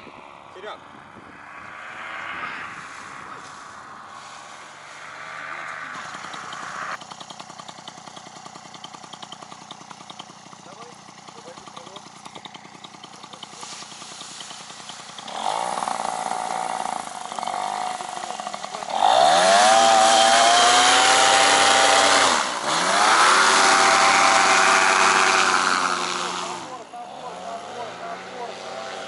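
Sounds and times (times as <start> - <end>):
paramotor engine and propeller: 0.0 - 29.0.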